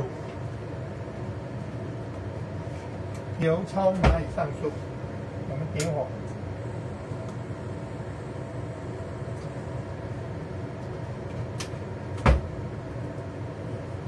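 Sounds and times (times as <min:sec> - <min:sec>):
low kitchen hum: 0:00.0 - 0:14.0.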